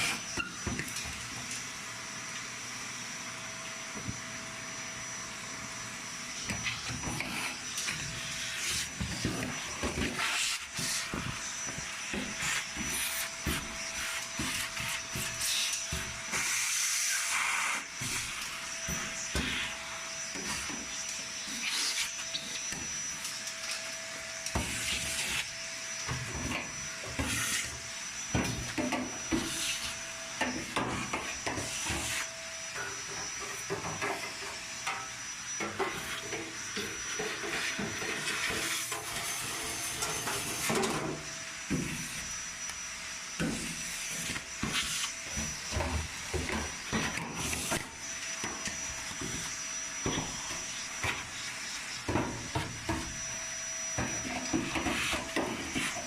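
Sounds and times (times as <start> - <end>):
faint high whine: 3.2 - 56.0.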